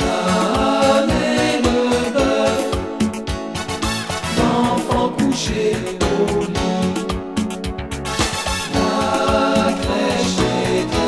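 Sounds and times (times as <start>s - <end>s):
instrumental christmas song: 0.0s - 11.0s.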